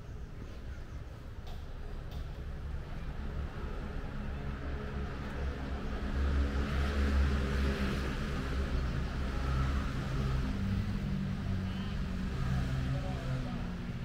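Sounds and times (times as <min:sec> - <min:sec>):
passing motor vehicle rumble: 0:00.2 - 0:14.0.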